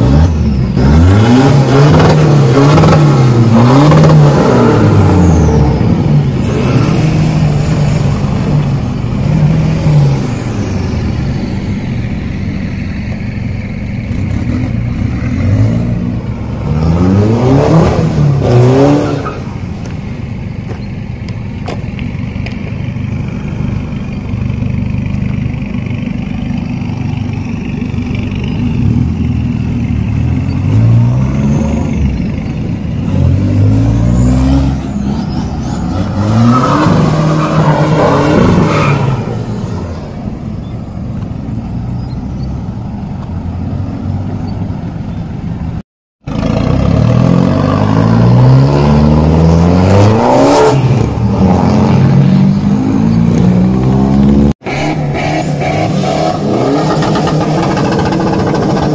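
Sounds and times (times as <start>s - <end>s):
diesel truck engine revving: 0.0s - 20.8s, 22.4s - 44.9s, 45.5s - 58.9s.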